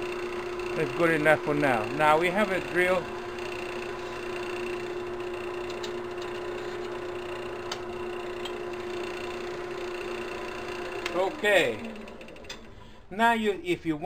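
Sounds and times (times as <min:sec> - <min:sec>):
drill bit boring: 0:00.0 - 0:13.1
lathe humming: 0:00.0 - 0:13.6.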